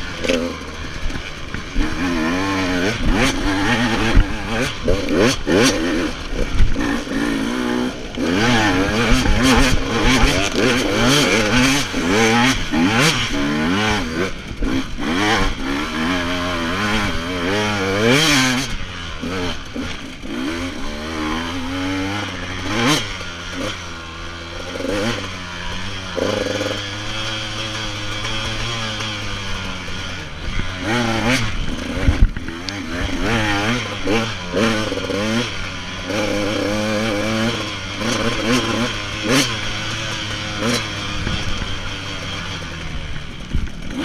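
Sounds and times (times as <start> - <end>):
bike rattling and knocking: 0.0 - 44.0
motorcycle engine revving: 0.0 - 44.0.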